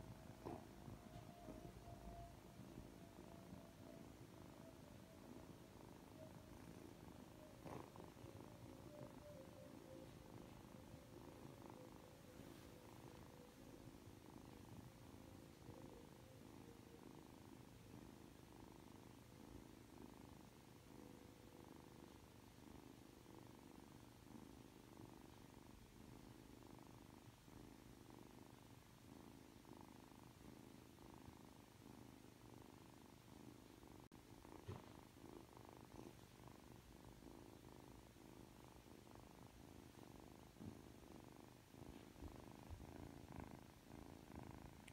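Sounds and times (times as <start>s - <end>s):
kitten purring: 0.0s - 44.9s.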